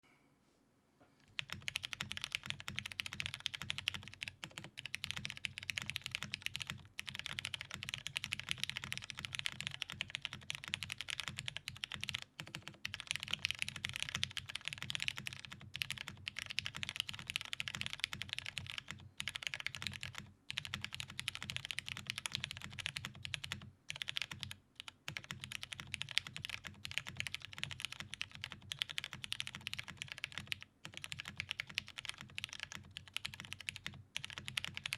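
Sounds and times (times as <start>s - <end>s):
fast typing on keyboard: 1.3s - 34.9s.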